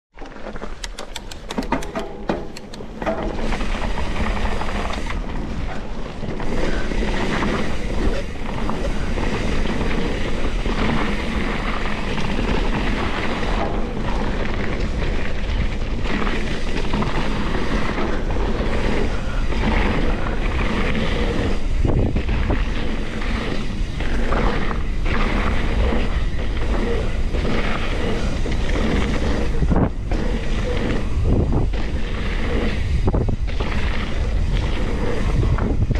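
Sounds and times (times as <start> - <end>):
wind buffeting microphone: 1.6 - 35.9.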